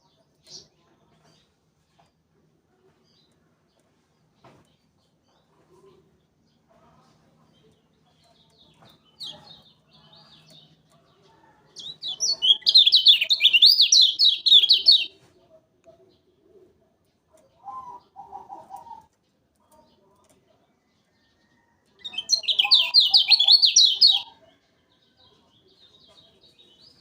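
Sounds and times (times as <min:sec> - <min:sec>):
songbird singing: 0:02.9 - 0:15.2, 0:17.1 - 0:27.0.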